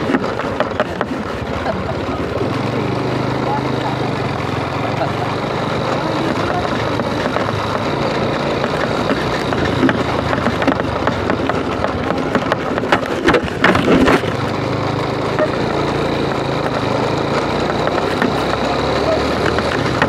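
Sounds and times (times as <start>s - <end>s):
clatter of knocks and rattles: 0.0s - 2.7s, 4.7s - 20.0s
motorcycle engine running: 0.0s - 20.0s
wind and road noise: 0.0s - 20.0s.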